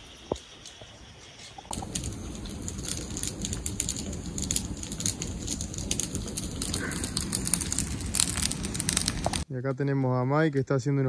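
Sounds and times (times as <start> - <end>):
campfire crackling: 0.0 - 9.5.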